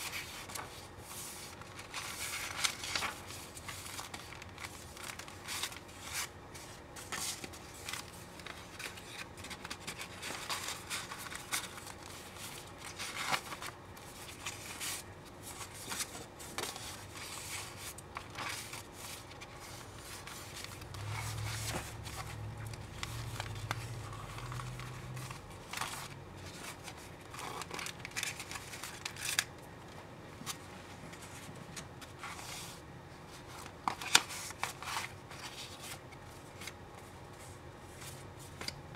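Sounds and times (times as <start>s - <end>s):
paper rustling and sliding: 0.0s - 29.5s, 30.5s - 38.8s.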